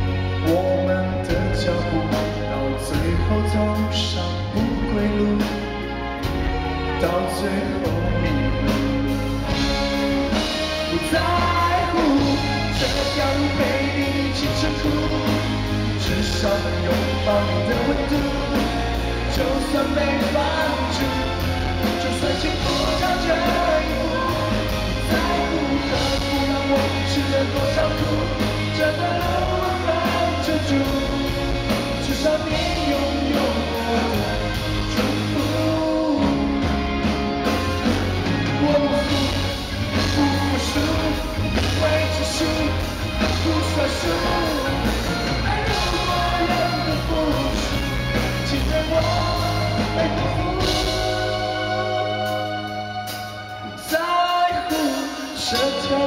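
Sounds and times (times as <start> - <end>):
live rock band playing: 0.0 - 56.0
man singing: 0.0 - 56.0.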